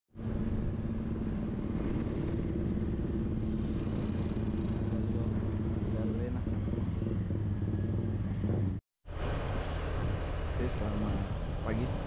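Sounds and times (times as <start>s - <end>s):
vehicle engine rumbling: 0.2s - 12.0s.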